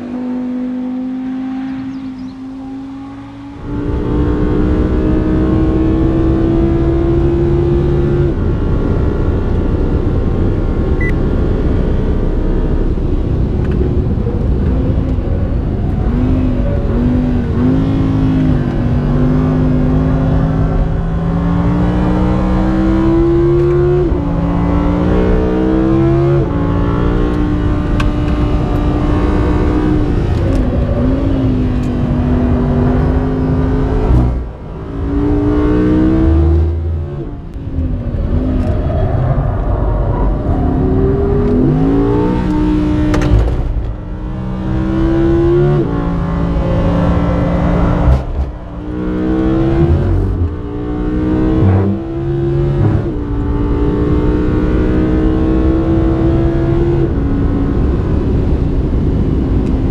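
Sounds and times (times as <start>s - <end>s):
car engine revving hard: 0.0s - 8.5s, 16.0s - 37.5s, 39.5s - 59.9s.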